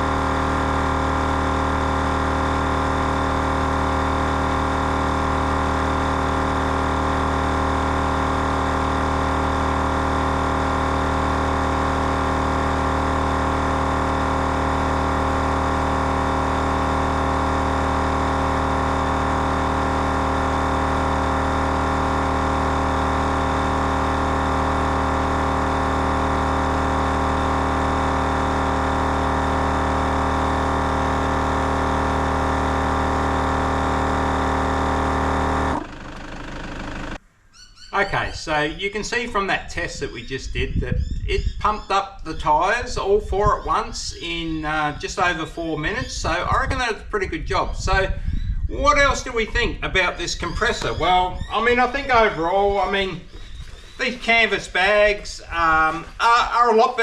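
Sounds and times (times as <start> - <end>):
air compressor motor drone: 0.0 - 37.2, 47.4 - 57.0.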